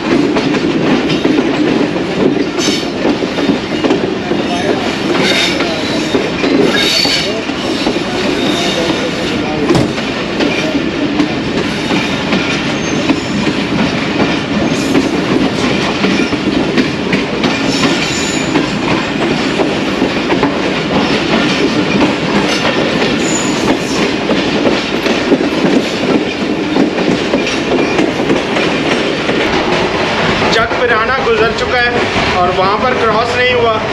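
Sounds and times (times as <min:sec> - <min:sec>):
train wheels clattering on track: 0:00.0 - 0:33.9.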